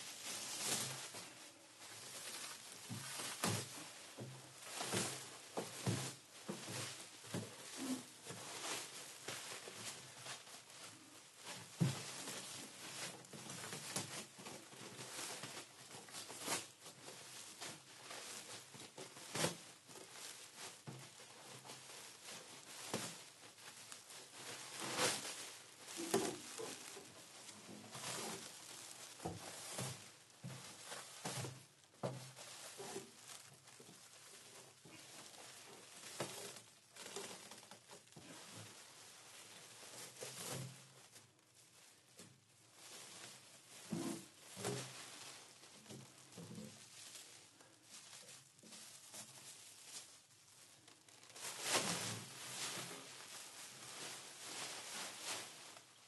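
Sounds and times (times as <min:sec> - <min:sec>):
plastic sheeting crinkling: 0:00.0 - 0:56.0.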